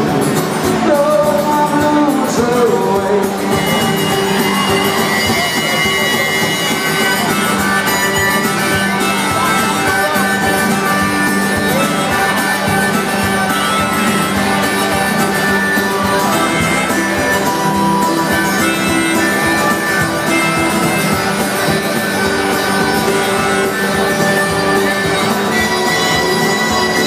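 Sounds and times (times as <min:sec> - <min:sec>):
acoustic guitar strumming: 0:00.0 - 0:27.0
harmonica playing held notes: 0:02.0 - 0:27.0.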